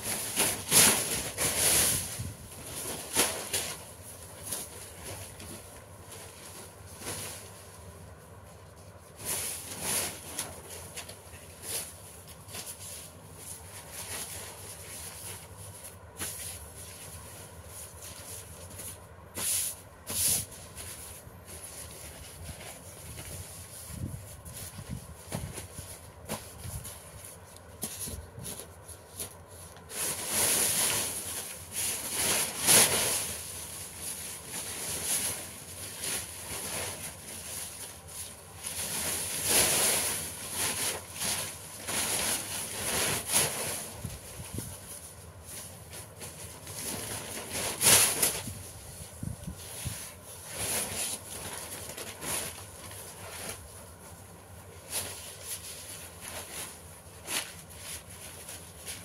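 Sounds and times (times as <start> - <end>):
paper rustling and creasing: 0.0 - 59.0.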